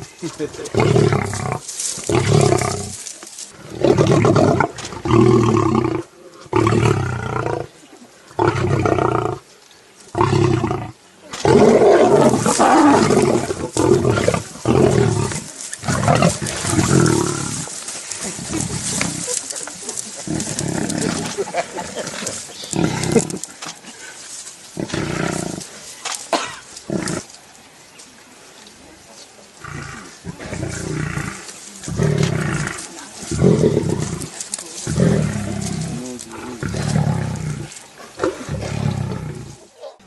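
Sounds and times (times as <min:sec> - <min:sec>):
lions growling: 0:00.0 - 0:07.7, 0:08.3 - 0:09.4, 0:10.1 - 0:25.8, 0:26.4 - 0:27.3, 0:29.5 - 0:40.0.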